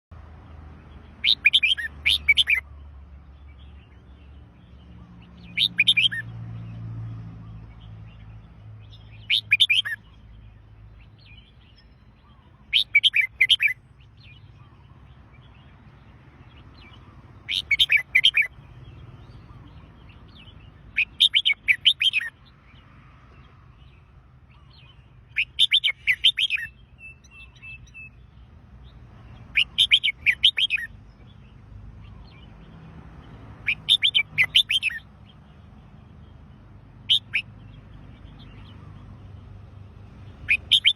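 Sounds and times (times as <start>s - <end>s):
bird singing warbled phrases: 0.4s - 40.9s.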